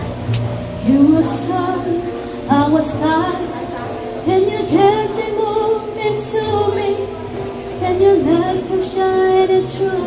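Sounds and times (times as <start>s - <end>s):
instrumental backing: 0.0s - 10.0s
woman singing a slow ballad: 0.8s - 10.0s.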